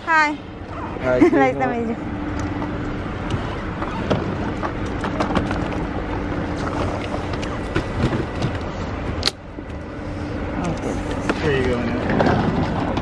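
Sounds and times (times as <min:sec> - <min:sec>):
car engine hum: 0:00.0 - 0:13.0
road traffic: 0:00.0 - 0:13.0.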